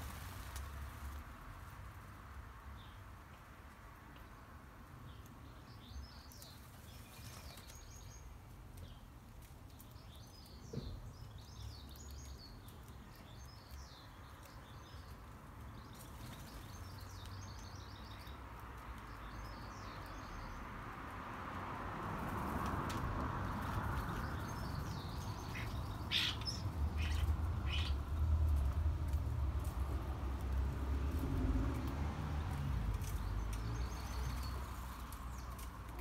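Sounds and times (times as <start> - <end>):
small birds chirping: 2.6 - 3.3, 4.0 - 21.0, 22.9 - 36.0.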